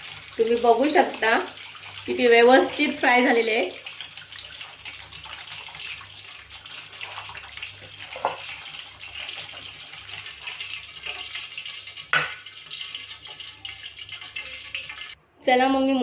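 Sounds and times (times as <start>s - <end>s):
hot oil sizzling: 0.0s - 15.2s.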